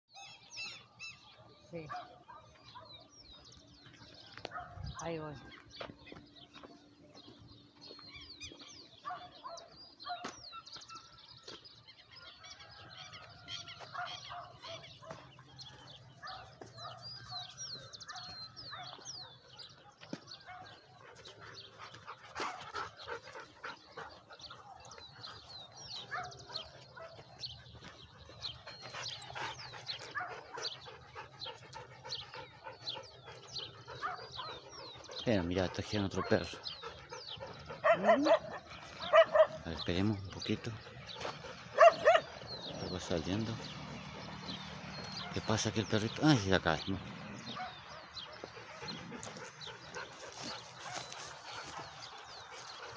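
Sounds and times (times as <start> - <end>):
birds chirping: 0.1 - 52.9
dogs barking and whining: 7.9 - 52.9.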